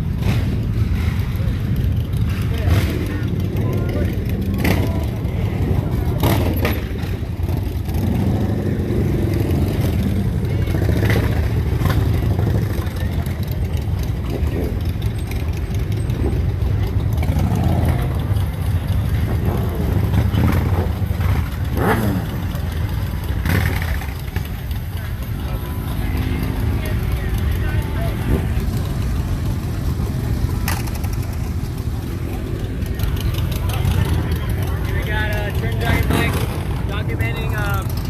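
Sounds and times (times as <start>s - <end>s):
engine revving: 0.0s - 12.9s, 14.3s - 24.5s, 25.1s - 38.0s
vehicle engines running: 0.0s - 38.0s.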